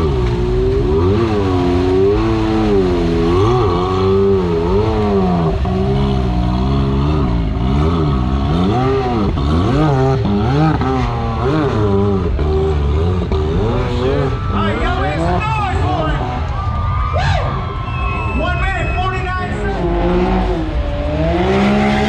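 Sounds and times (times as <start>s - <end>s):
utility vehicle engine revving: 0.0s - 22.0s.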